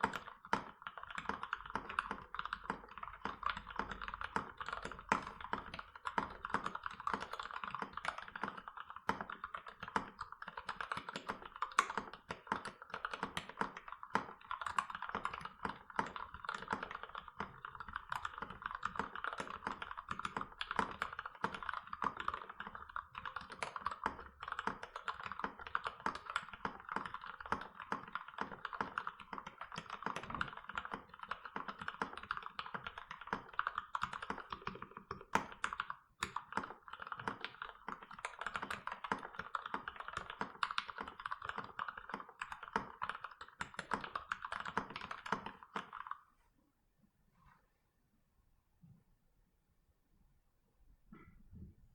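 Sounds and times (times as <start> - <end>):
mechanical keyboard typing: 0.0 - 46.2.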